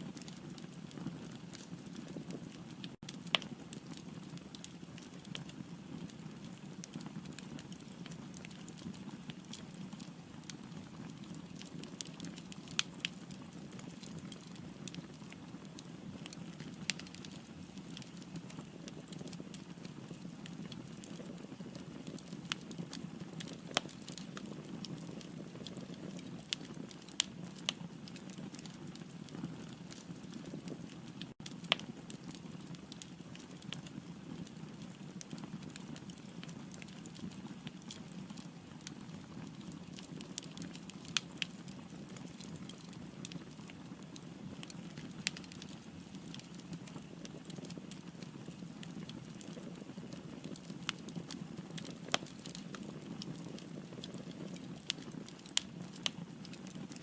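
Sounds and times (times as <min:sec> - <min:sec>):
firewood crackling and popping: 0:00.0 - 0:57.0.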